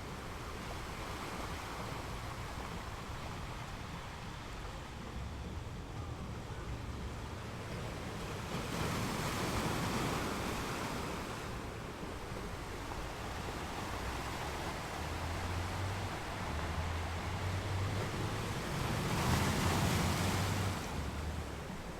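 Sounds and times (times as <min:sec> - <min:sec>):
ocean waves on a beach: 0:00.0 - 0:21.9.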